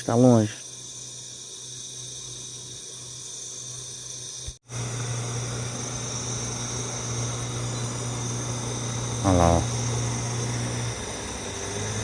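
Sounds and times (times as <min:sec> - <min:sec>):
distant boat motor droning: 0:00.0 - 0:12.0
night insects chirping: 0:00.0 - 0:12.0.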